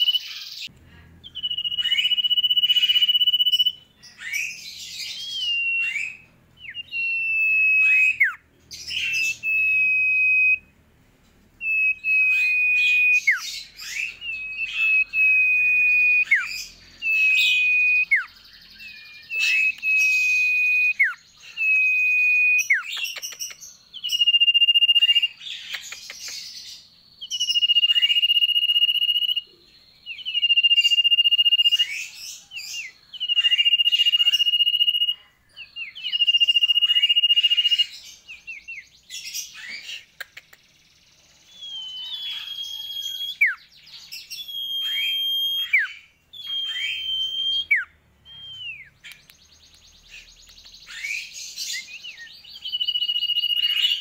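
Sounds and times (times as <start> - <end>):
bird whistling: 0.0 - 10.7, 11.6 - 40.6, 41.5 - 54.0
bird chirps: 0.0 - 54.0.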